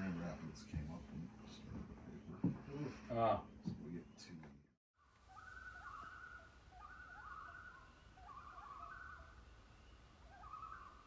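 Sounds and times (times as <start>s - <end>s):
bird calling faintly: 1.4s - 11.0s.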